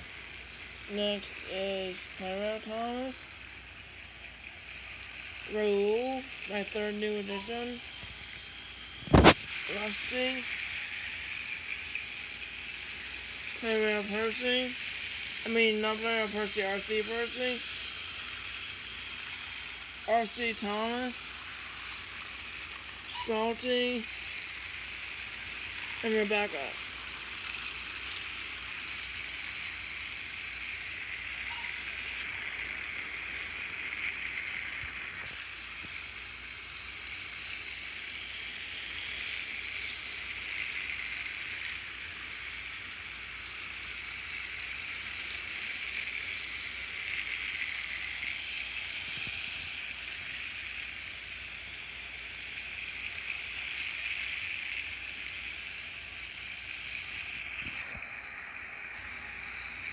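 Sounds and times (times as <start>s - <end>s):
toy train motors whirring: 0.0s - 59.9s.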